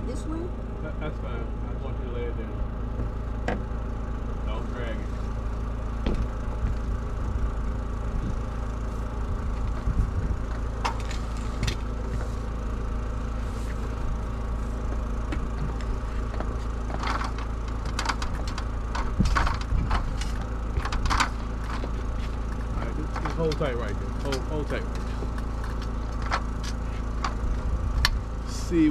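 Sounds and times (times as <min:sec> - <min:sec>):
engine idling hum: 0:00.0 - 0:28.9.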